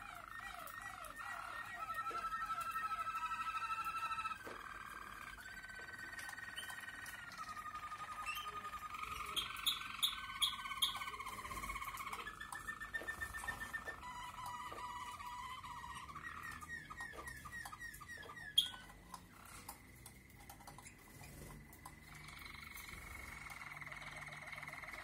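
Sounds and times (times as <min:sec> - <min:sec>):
canary trilling: 0:00.0 - 0:25.0.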